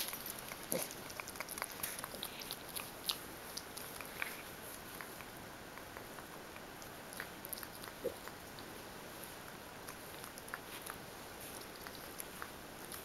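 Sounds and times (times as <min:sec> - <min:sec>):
pig snuffling and rooting: 0:00.0 - 0:13.0.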